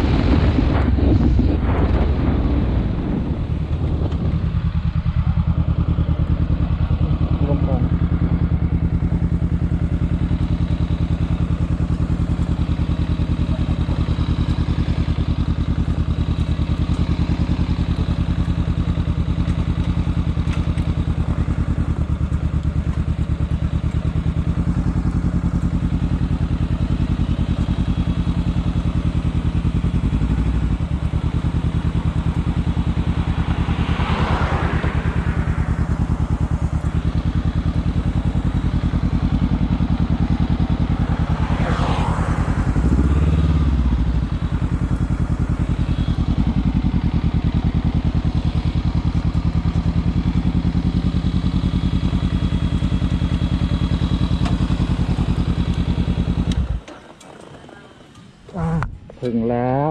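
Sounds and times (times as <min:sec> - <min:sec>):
motorcycle engine running at low revs: 0:00.0 - 0:59.9.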